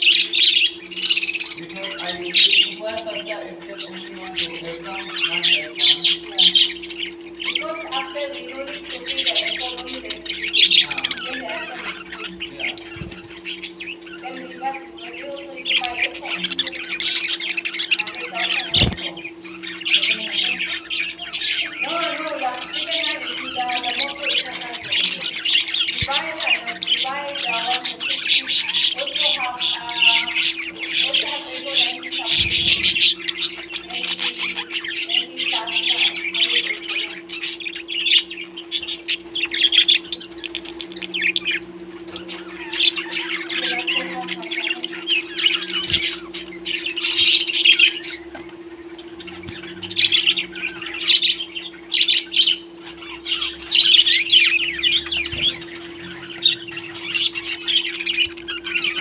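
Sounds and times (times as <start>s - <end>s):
parrots chattering: 0.0s - 59.0s.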